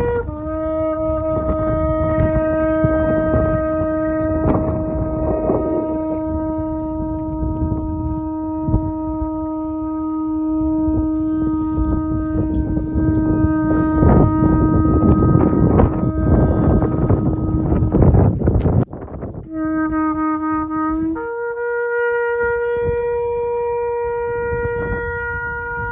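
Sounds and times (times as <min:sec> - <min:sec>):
shofar long steady note: 0:00.0 - 0:25.9
wind buffeting microphone: 0:00.0 - 0:25.9.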